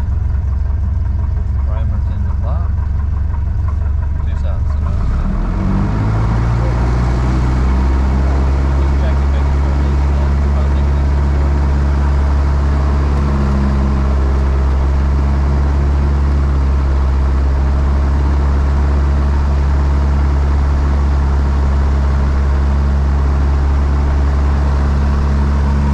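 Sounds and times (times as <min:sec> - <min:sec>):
aircraft engine droning: 0:00.0 - 0:25.9.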